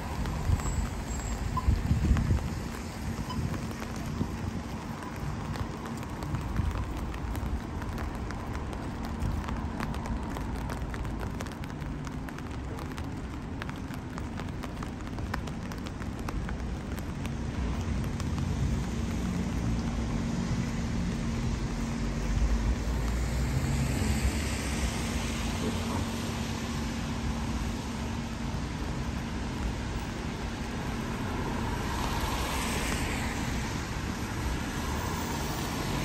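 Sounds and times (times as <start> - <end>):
rain with drips: 0.0 - 36.0
vehicle passing on wet road: 0.0 - 36.0.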